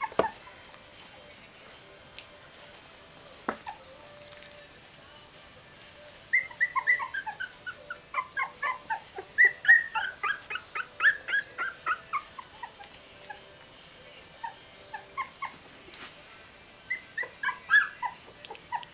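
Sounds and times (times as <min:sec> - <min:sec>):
puppies whimpering and squeaking: 0:00.0 - 0:04.4, 0:05.9 - 0:18.9.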